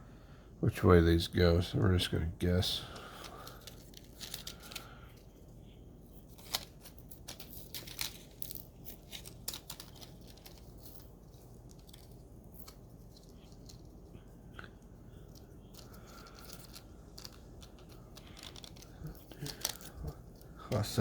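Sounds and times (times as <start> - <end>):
scratchy handling noises: 2.5 - 21.0.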